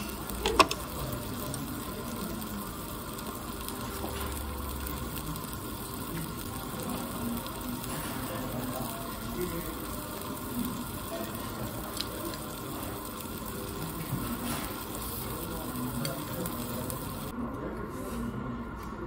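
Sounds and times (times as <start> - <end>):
meat sizzling on hot plate: 0.0 - 17.3.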